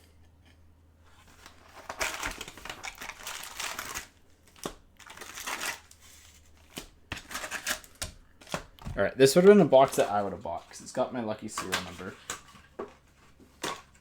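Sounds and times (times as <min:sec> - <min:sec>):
foil wrappers crinkling: 0:01.2 - 0:14.0.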